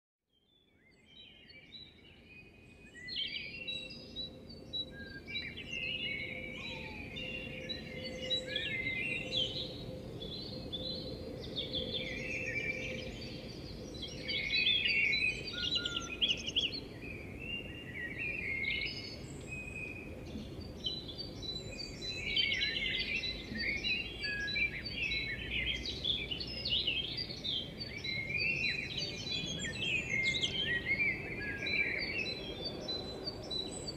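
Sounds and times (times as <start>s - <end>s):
songbirds chirping: 0.3s - 33.9s
steady low background noise: 1.6s - 33.9s.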